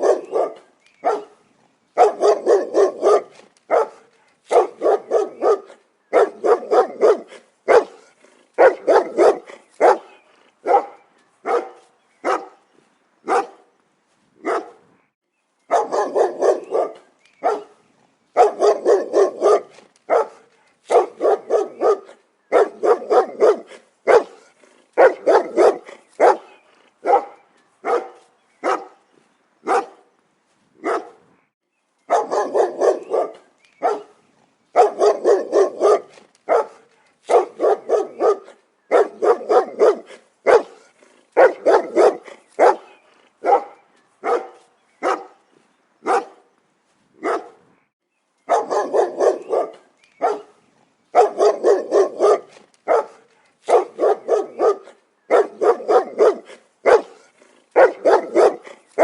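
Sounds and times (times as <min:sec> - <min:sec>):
dog barking: 0:00.0 - 0:01.4, 0:02.0 - 0:12.6, 0:13.3 - 0:13.6, 0:14.4 - 0:14.8, 0:15.7 - 0:17.8, 0:18.4 - 0:29.0, 0:29.6 - 0:30.1, 0:30.8 - 0:31.2, 0:32.1 - 0:45.4, 0:46.0 - 0:46.5, 0:47.2 - 0:47.6, 0:48.5 - 0:59.0.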